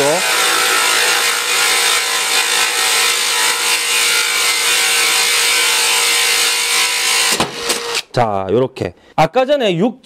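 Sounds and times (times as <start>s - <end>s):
core bit grinding through tile: 0.0s - 8.1s
power tool motor whining: 0.0s - 8.1s.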